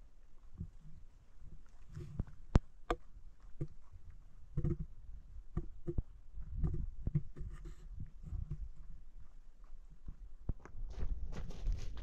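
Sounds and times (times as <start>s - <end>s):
rustling: 0.4s - 12.0s.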